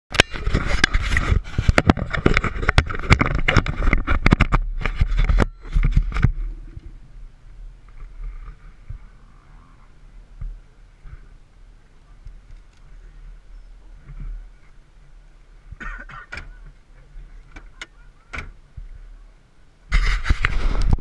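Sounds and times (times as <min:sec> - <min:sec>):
faint rubbing and rustle: 0:00.3 - 0:19.2, 0:19.9 - 0:21.0.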